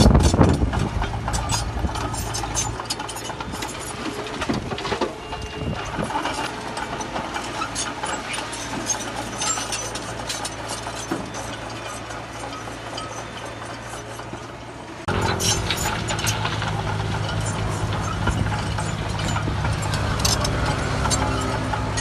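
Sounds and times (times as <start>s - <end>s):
clicks and clinks: 0.0s - 14.5s, 15.1s - 22.0s
heavy diesel engine running: 0.0s - 22.0s.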